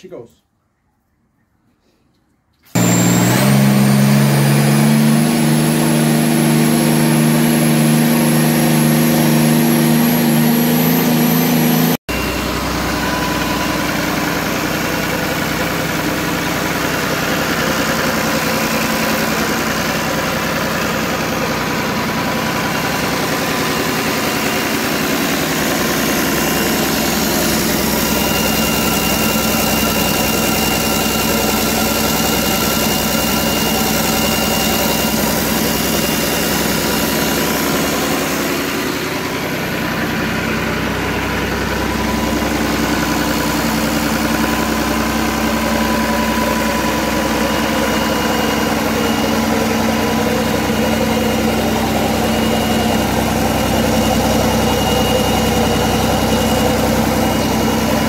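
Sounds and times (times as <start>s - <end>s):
diesel engine idling: 2.8s - 58.0s.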